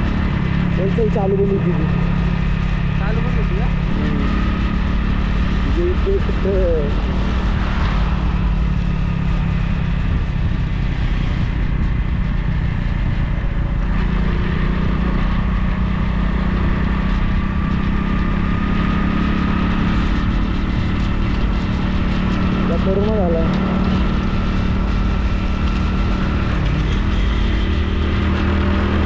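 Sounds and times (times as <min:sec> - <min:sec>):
dense low rumble: 0:00.0 - 0:29.0
motorcycle engine cruising: 0:00.0 - 0:29.0.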